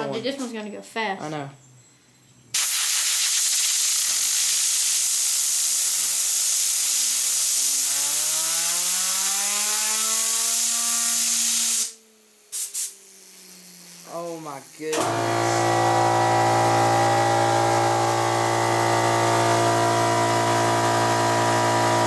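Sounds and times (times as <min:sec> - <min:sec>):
compressed air blasting: 0:02.5 - 0:21.9.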